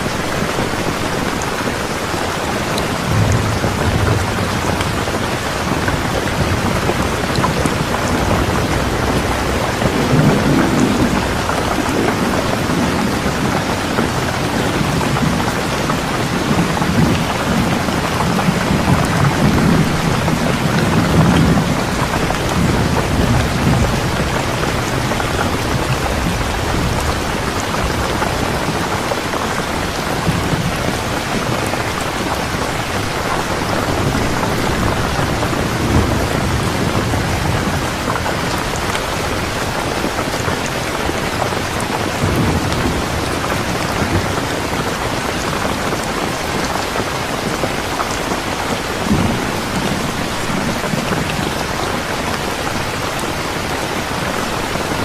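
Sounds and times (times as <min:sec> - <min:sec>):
heavy rain: 0:00.0 - 0:55.0
low rolling thunder: 0:02.2 - 0:55.0.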